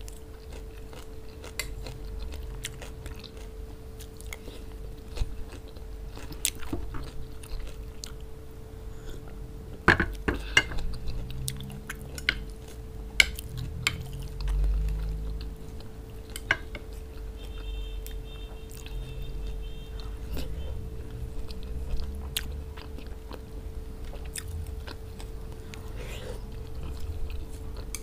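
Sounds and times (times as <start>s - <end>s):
chewing food: 0.0s - 8.4s, 10.1s - 28.0s
faint steady hum: 0.0s - 28.0s.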